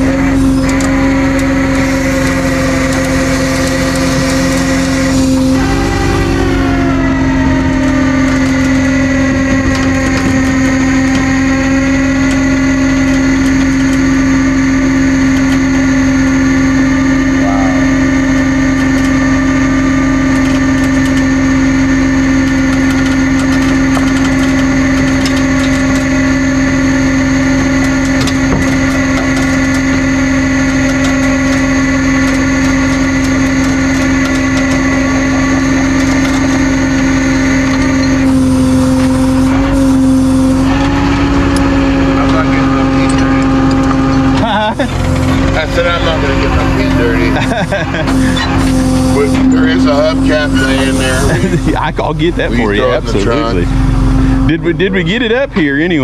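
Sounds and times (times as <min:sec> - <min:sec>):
truck engine and winch running: 0:00.0 - 0:56.0.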